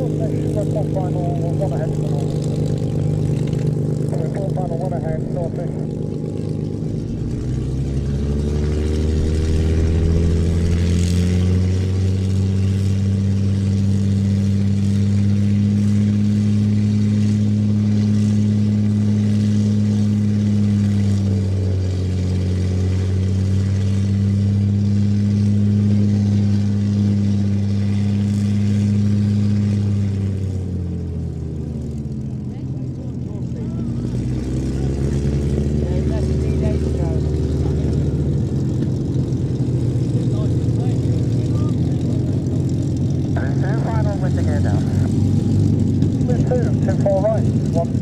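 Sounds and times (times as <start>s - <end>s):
propeller aircraft engine running: 0.0s - 48.0s.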